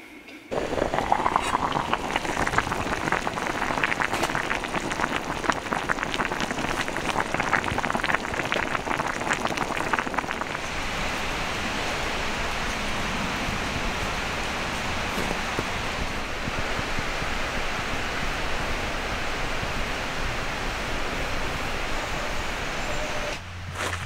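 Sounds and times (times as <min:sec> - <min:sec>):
crackling patter of water: 0:00.5 - 0:23.0.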